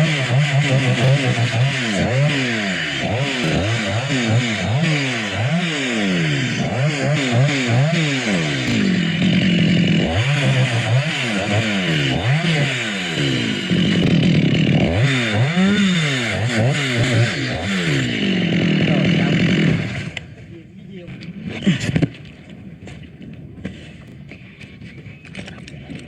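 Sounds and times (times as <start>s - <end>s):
chainsaw cutting wood: 0.0s - 20.5s, 21.2s - 22.4s.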